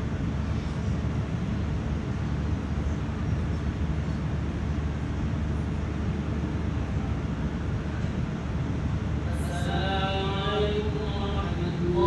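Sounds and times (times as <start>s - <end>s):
low rumbling room noise: 0.0s - 12.0s.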